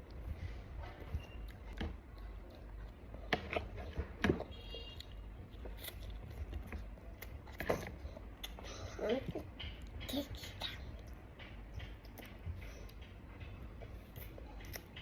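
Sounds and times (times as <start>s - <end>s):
child chewing: 0.0s - 15.0s.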